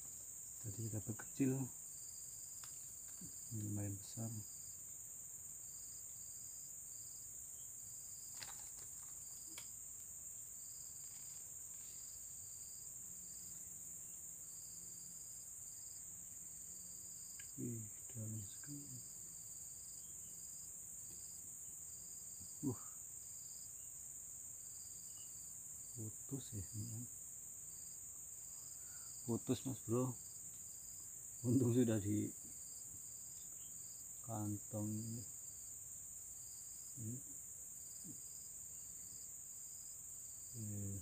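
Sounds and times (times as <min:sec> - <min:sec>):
insect chirping: 0:00.0 - 0:41.0
insect high-pitched drone: 0:00.0 - 0:41.0.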